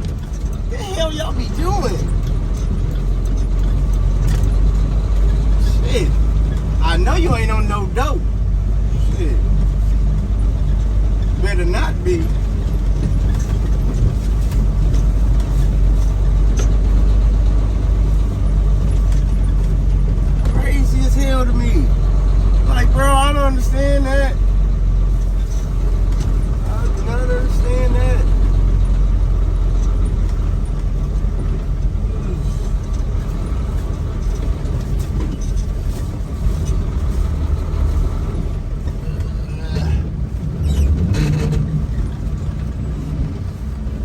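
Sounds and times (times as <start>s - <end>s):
diesel truck engine running: 0.0s - 44.0s
road noise: 0.0s - 44.0s.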